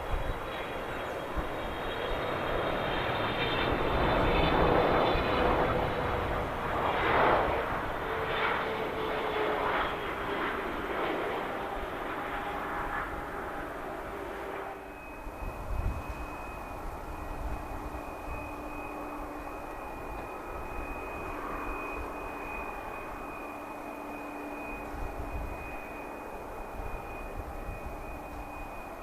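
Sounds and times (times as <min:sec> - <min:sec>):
jet engines whining: 0:00.0 - 0:29.0.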